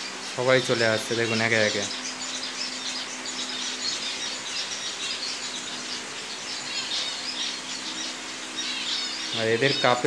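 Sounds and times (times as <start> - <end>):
finches chirping and twittering: 0.0 - 10.0.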